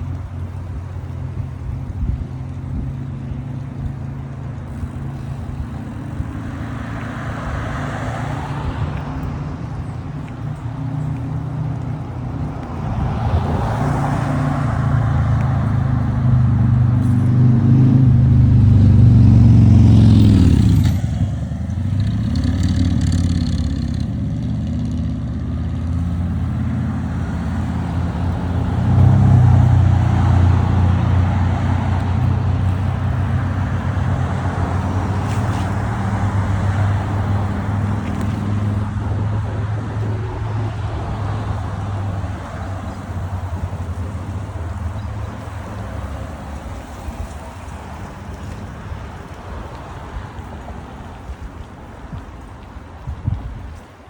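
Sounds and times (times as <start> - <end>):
cars passing: 0.0 - 54.0.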